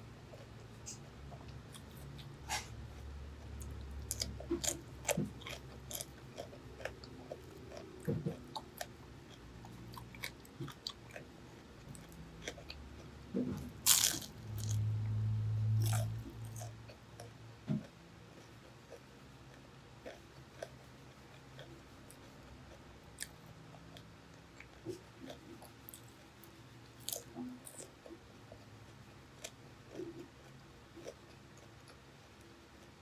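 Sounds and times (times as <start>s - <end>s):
low steady hum: 0.0s - 33.0s
crunchy biting and chewing: 0.3s - 15.0s, 15.7s - 32.1s.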